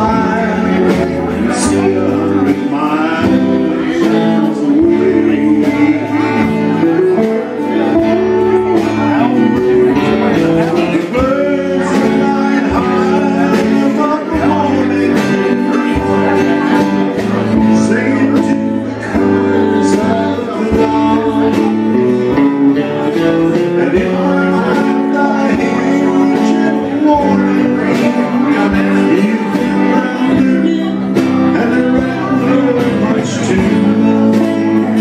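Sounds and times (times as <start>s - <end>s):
live country band playing: 0.0s - 35.0s.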